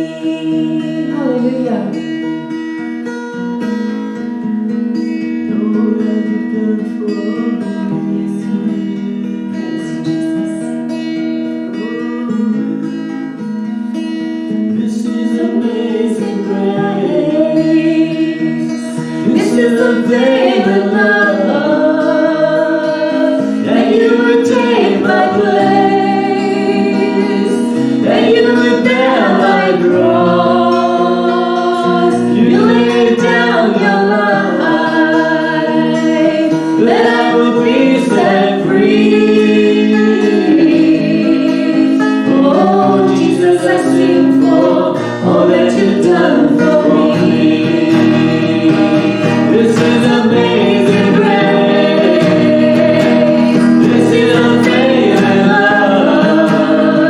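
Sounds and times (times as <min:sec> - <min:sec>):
voices singing: 0:00.0 - 0:02.5, 0:05.3 - 0:13.4, 0:14.3 - 0:57.0.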